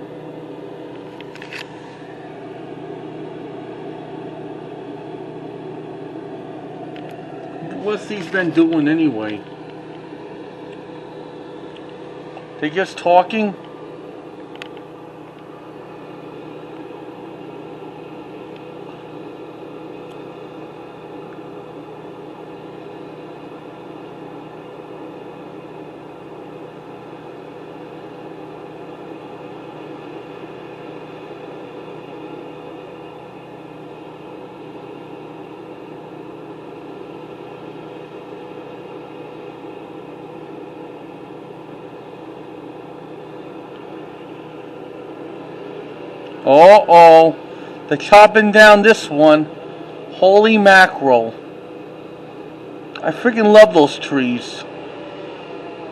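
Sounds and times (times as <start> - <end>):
steady mechanical hum: 0.0 - 55.9.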